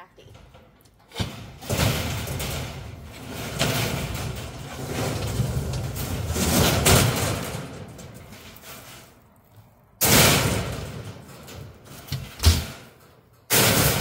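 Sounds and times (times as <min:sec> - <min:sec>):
metal scraping against metal: 0:00.2 - 0:14.0.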